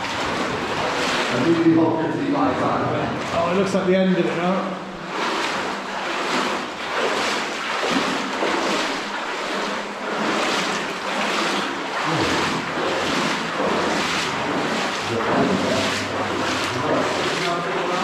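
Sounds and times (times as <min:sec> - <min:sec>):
water splashing under wading steps: 0:00.0 - 0:18.0.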